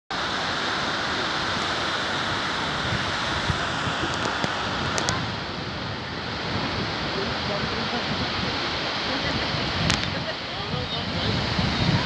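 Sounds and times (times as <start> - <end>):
small waves breaking on sand: 0.1 - 12.0
wind on microphone: 1.1 - 12.0.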